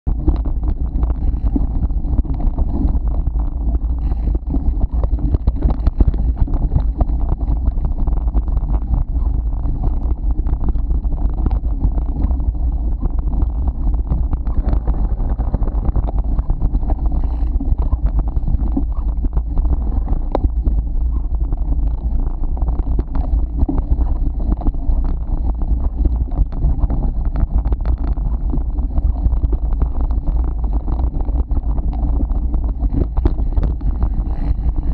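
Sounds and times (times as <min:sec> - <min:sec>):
wind buffeting microphone: 0:00.0 - 0:34.9
bike rattling over rough ground: 0:00.1 - 0:34.9.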